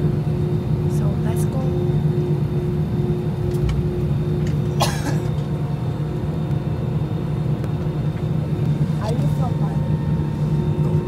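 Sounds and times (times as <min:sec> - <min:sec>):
airliner engine drone: 0:00.0 - 0:11.0.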